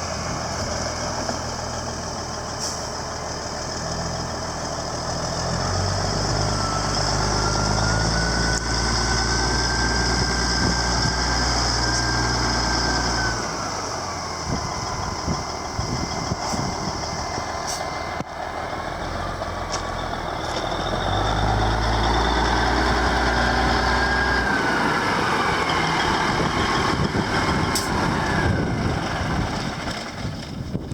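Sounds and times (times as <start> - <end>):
truck diesel engine revving: 0.0 - 30.4.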